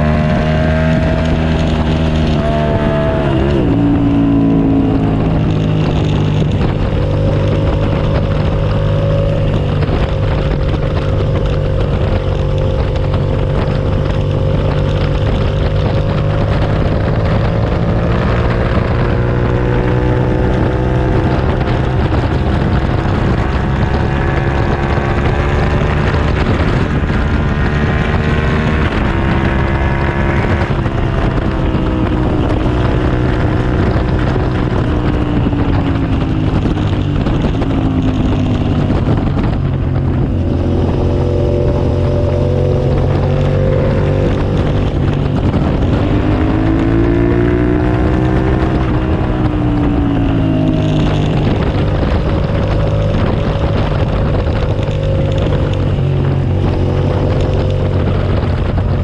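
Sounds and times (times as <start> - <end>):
motorcycle engine at speed: 0.0 - 59.0
wind rushing over microphone: 0.0 - 59.0.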